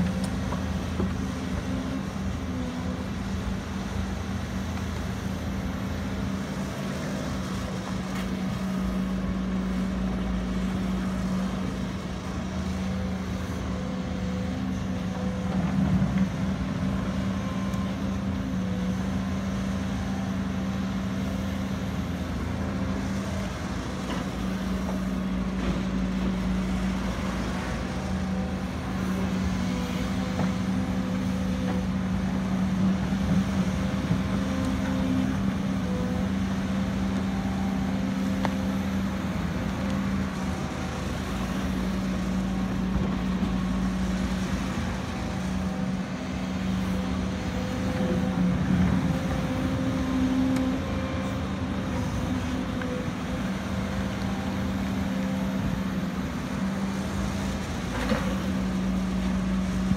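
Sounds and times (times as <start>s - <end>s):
excavator diesel engine droning: 0.0s - 59.9s.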